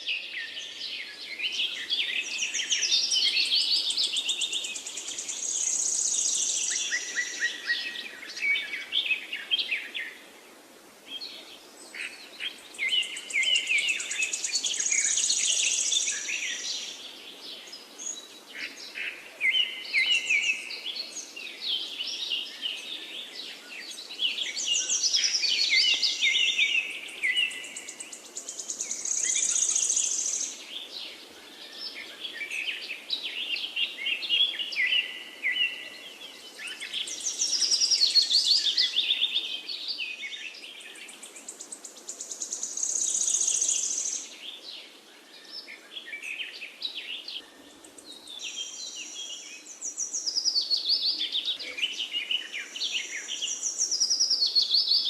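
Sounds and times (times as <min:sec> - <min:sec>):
faint background hiss: 0:00.0 - 0:55.0
songbirds singing: 0:00.0 - 0:55.0.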